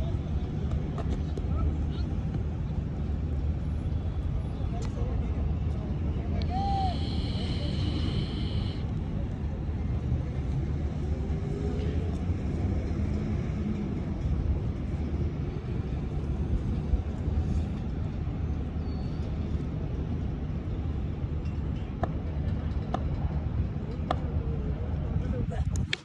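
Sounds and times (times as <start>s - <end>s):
low rumble of open-air background: 0.0s - 26.0s.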